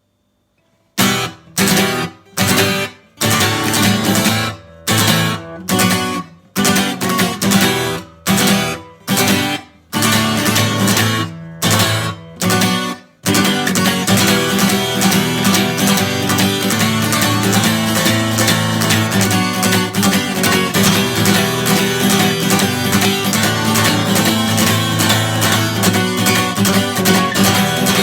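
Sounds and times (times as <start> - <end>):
acoustic guitar strummed choppily: 0.9 - 28.0.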